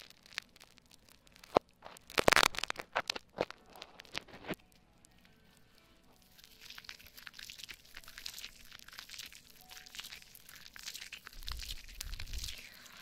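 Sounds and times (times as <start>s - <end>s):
soap foam crackling and popping: 0.0s - 13.0s.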